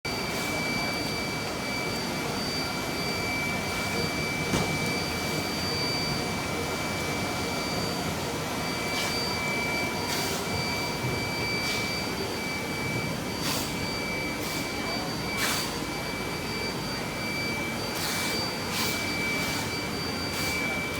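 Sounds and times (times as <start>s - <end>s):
constant high whine: 0.1s - 20.9s
factory machinery noise: 0.1s - 20.9s.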